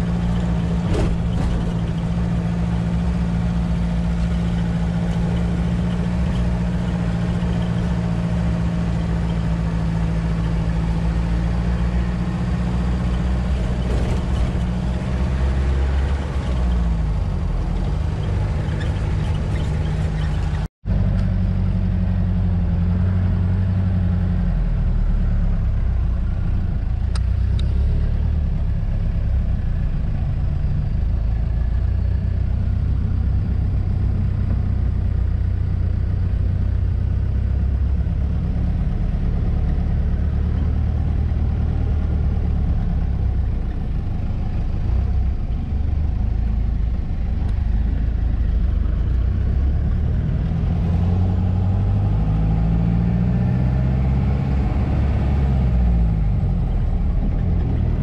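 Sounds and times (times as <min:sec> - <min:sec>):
vehicle engine running under load: 0:00.0 - 0:58.0.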